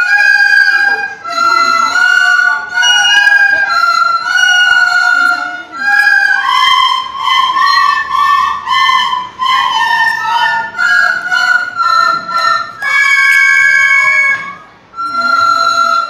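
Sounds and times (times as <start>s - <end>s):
recorder playing folk melody: 0.0s - 16.0s.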